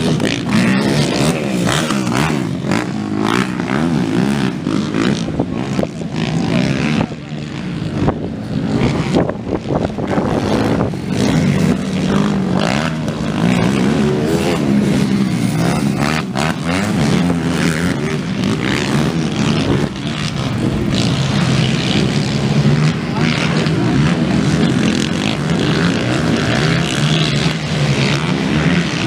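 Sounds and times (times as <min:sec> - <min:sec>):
atv engines revving: 0:00.0 - 0:29.0.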